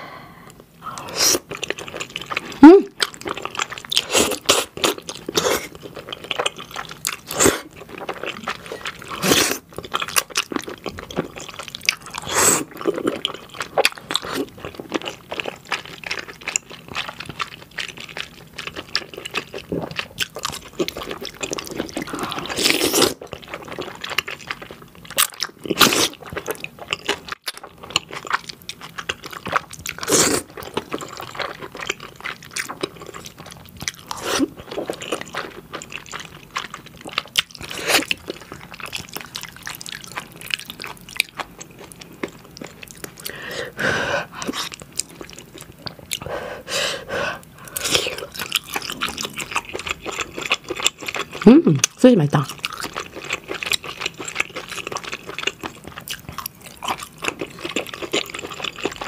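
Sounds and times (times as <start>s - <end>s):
wet chewing and smacking: 1.4s - 46.4s, 47.0s - 59.0s.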